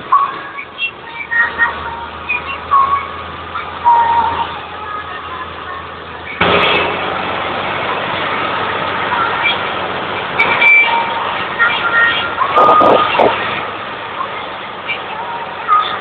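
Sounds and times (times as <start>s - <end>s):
tractor engines running: 0.0s - 16.0s.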